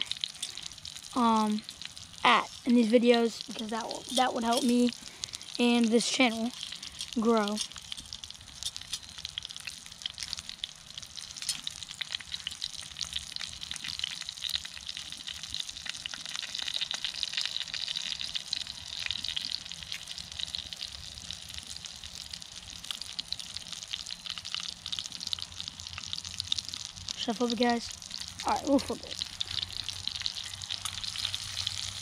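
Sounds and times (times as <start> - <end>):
steak sizzling in a skillet: 0.0 - 32.0.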